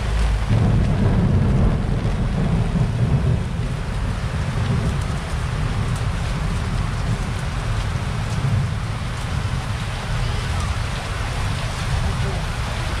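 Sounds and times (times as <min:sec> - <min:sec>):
heavy rain falling: 0:00.0 - 0:13.0
thunder rumbling: 0:00.0 - 0:13.0.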